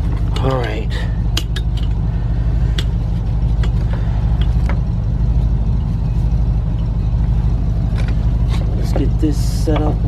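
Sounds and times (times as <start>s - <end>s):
low engine rumble: 0.0s - 10.0s.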